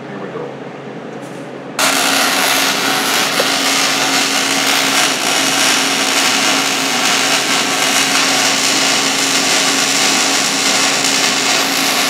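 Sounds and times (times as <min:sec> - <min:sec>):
low hum: 0:01.8 - 0:12.0
welding arc crackling: 0:01.8 - 0:12.0.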